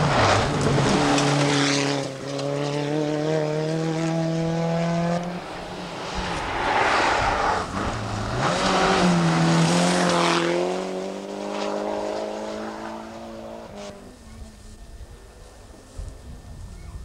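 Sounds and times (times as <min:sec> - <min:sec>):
rally car engine at full throttle: 0:00.0 - 0:16.8.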